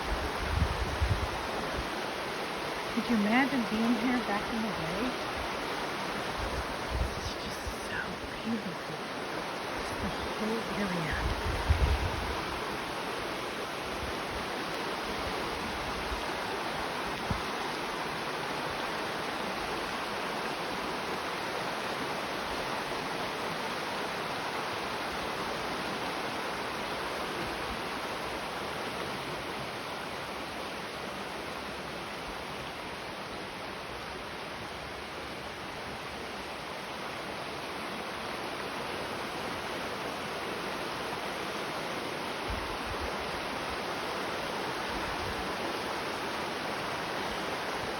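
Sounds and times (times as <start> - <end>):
river rushing over rocks: 0.0 - 47.9.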